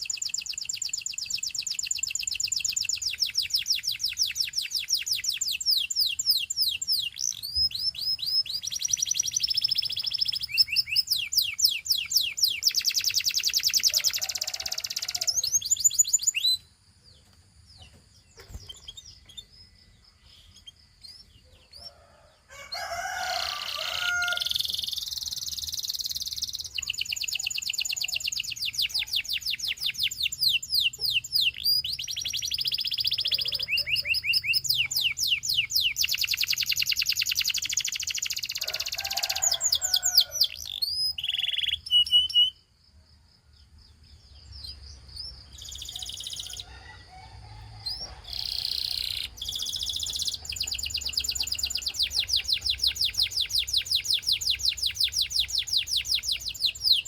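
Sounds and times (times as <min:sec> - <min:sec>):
canary singing trills: 0:00.0 - 0:42.7, 0:43.9 - 0:47.0, 0:47.6 - 0:57.0.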